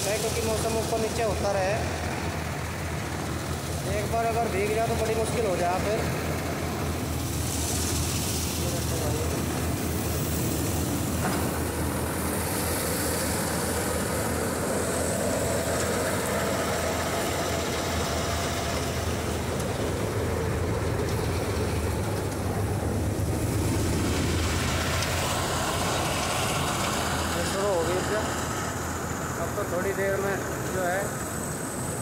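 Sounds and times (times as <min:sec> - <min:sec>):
combine harvester machinery: 0:00.0 - 0:32.0
tractor diesel engine droning: 0:00.0 - 0:32.0.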